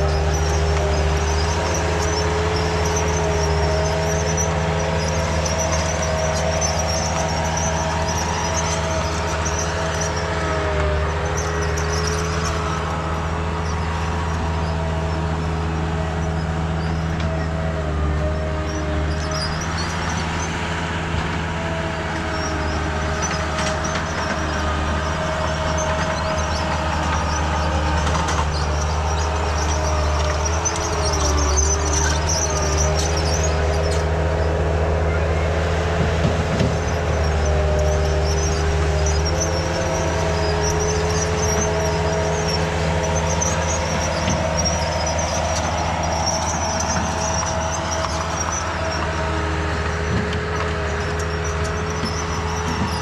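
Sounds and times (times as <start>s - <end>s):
diesel machine engine drone: 0.0s - 53.0s
high-pitched squealing: 0.0s - 53.0s.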